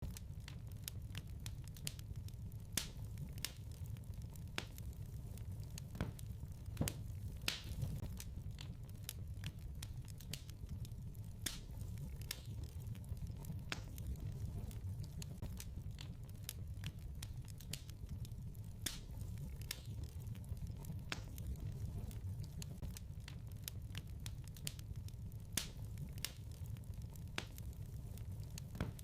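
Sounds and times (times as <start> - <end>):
low rumble of flames: 0.0 - 29.0
wood fire crackling: 0.0 - 29.0.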